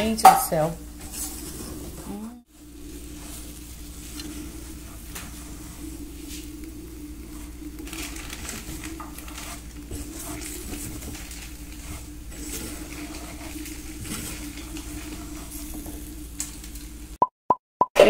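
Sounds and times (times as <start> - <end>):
sizzling: 0.0 - 17.2
steady low hum: 0.0 - 17.2
stirring and scraping in a pan: 1.0 - 17.0.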